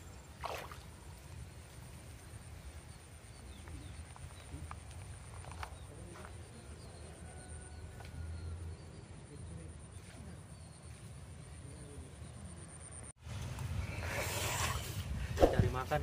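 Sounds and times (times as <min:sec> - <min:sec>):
faint insect drone: 0:00.0 - 0:15.2.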